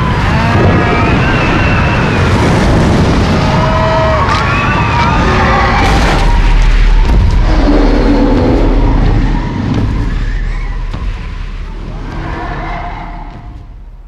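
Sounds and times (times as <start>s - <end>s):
rumbling cartoon chaos din: 0.0s - 13.8s.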